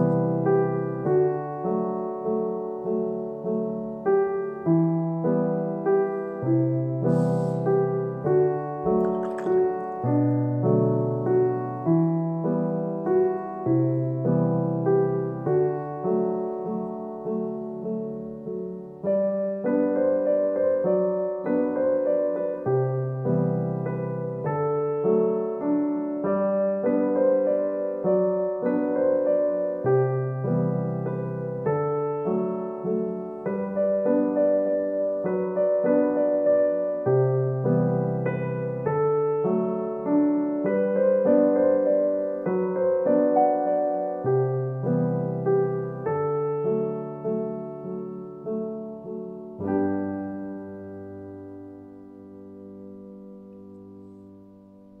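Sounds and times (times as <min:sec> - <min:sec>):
soft piano music: 0:00.0 - 0:55.0.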